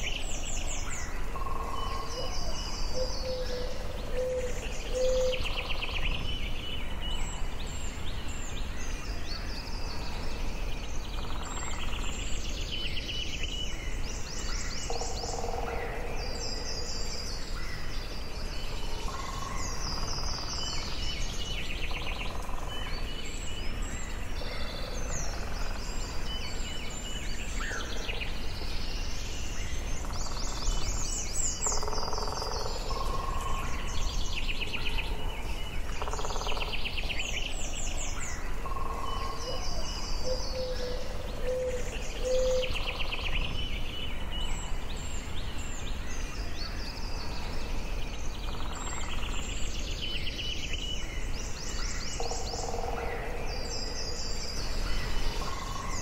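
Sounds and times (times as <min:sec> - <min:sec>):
low rumble and hiss: 0:00.0 - 0:56.0
songbirds trilling: 0:00.0 - 0:56.0.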